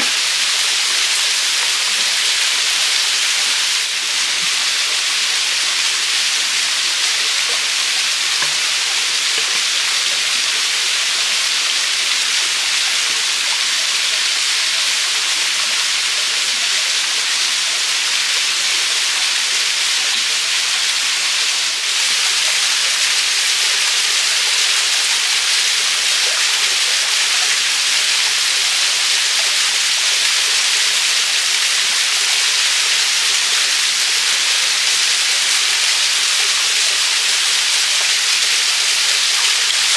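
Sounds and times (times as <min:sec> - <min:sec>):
waterfall splashing into a pool: 0:00.0 - 0:39.9.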